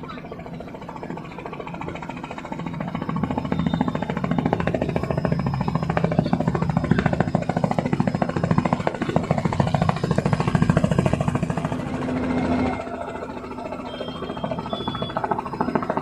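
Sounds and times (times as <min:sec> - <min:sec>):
helicopter rotor chop: 0:00.0 - 0:16.0.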